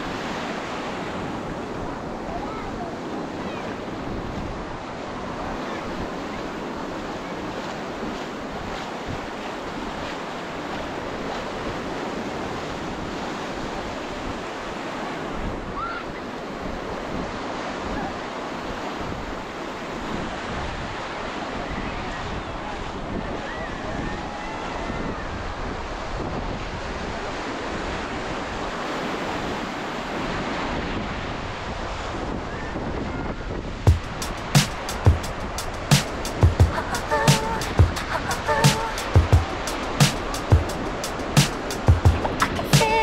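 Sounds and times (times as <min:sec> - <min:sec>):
surf washing onto beach: 0:00.0 - 0:43.0
wind on microphone: 0:00.0 - 0:43.0.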